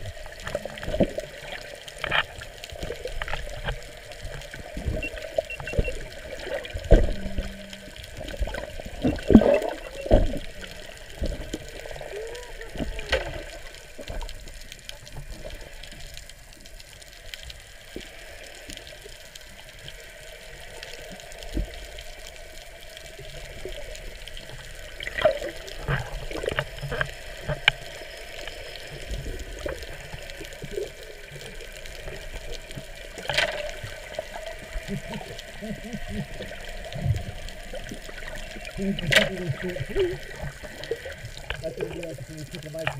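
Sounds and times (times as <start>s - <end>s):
muffled underwater hiss and slosh: 0.0s - 42.9s
sharp clicks and crackles: 0.0s - 42.9s.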